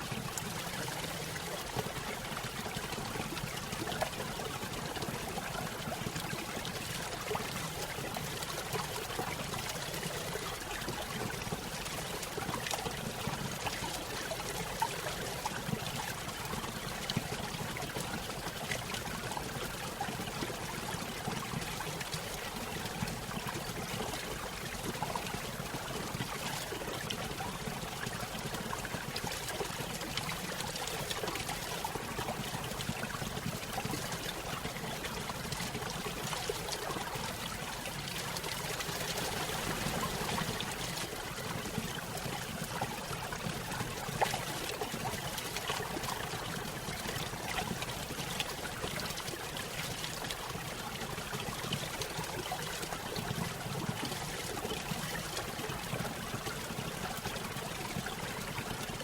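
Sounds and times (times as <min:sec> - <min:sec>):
stream over small waterfall: 0:00.0 - 0:59.0.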